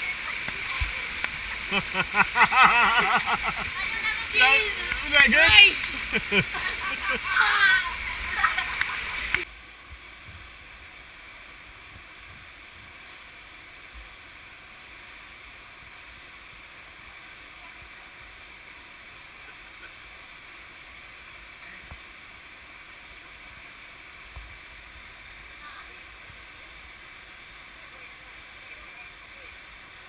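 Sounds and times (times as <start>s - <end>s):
small waterfall rushing: 0.0s - 30.0s.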